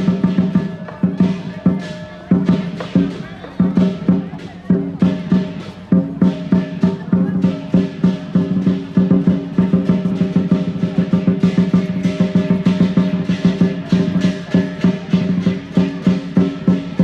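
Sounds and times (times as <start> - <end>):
cymbals clashing: 0.0 - 17.0
large drum beaten rapidly: 0.0 - 17.0.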